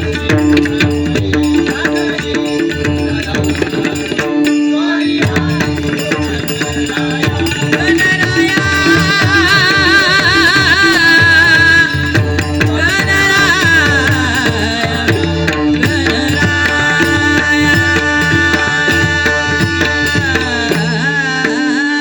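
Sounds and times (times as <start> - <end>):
tabla drumming: 0.0 - 22.0.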